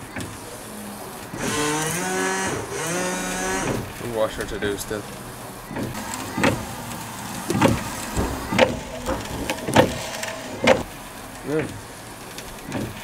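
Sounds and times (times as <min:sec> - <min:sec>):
windscreen wiper motor running: 0:00.0 - 0:13.0
wiper blades sweeping wet glass: 0:00.0 - 0:13.0.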